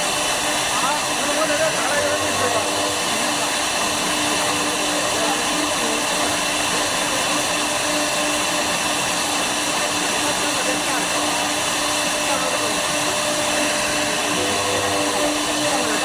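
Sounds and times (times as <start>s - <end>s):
cnc router spindle whining: 0.0s - 16.0s.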